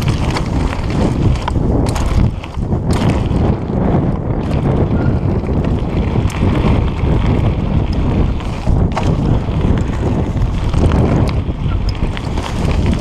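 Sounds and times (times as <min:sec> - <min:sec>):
bike knocking over bumps: 0:00.0 - 0:13.0
bike tyres rumbling on dirt: 0:00.0 - 0:13.0
wind buffeting microphone: 0:00.0 - 0:13.0.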